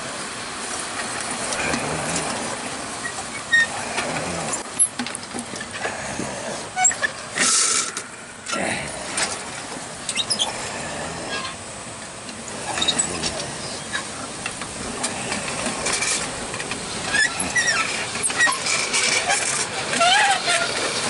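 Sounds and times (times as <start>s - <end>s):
rumble of sliding down slide: 0.0s - 21.0s.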